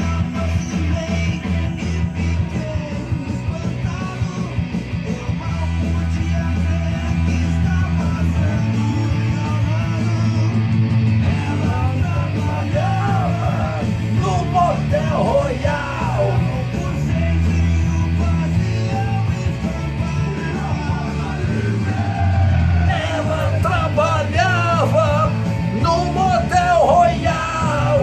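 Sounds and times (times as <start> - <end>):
rock song with singing: 0.0 - 28.0.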